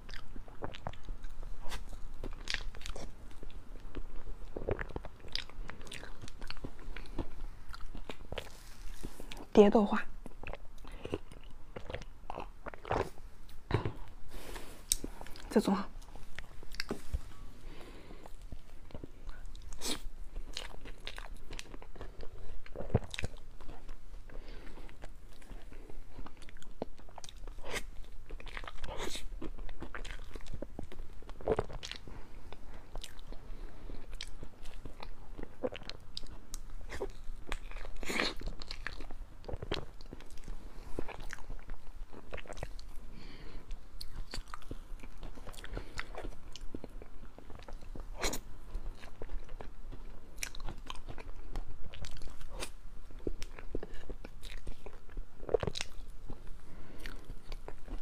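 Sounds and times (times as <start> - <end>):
chewing and wet mouth smacks: 0.0 - 9.5, 14.9 - 17.2, 18.2 - 32.1, 32.8 - 43.0, 43.7 - 58.0.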